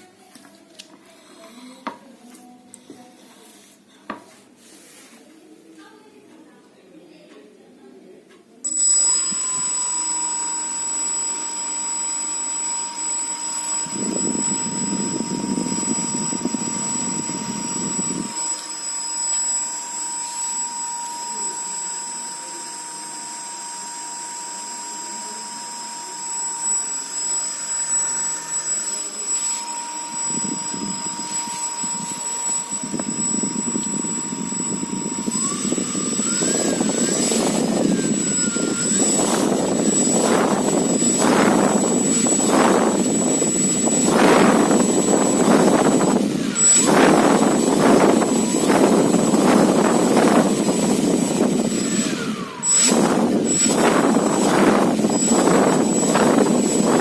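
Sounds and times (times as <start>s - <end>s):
fan motor whine: 8.6s - 57.0s.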